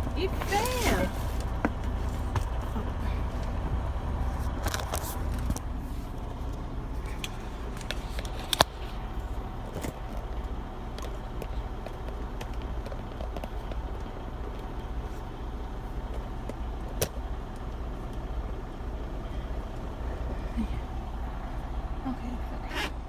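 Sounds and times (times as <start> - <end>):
idling truck engine hum: 0.0 - 23.0.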